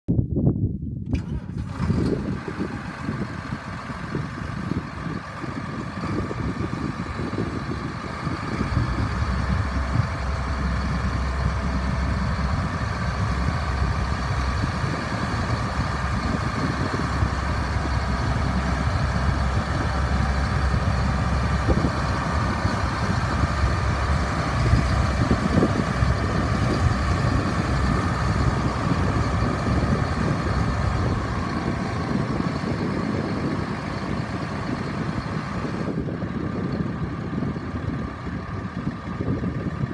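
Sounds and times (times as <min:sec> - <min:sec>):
tractor diesel engine running: 0:01.0 - 0:39.9.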